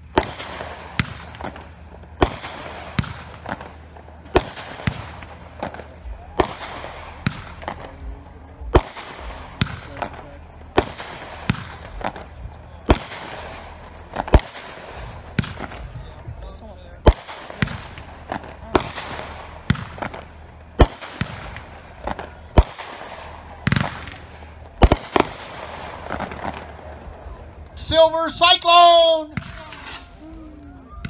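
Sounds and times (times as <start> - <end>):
fireworks reports with hiss: 0.0 - 31.0.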